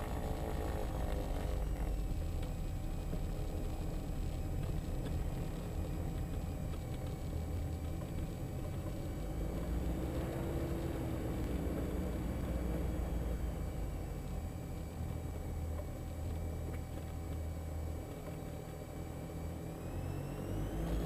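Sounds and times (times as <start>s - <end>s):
aircraft engines low rumble: 0.0s - 19.6s.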